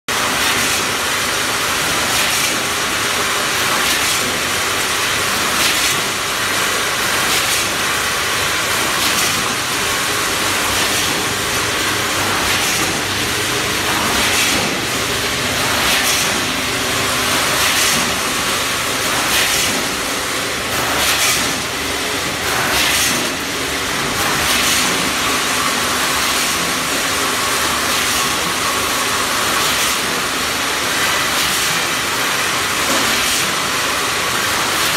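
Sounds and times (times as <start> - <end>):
packing machine hissing: 0.2 - 34.9.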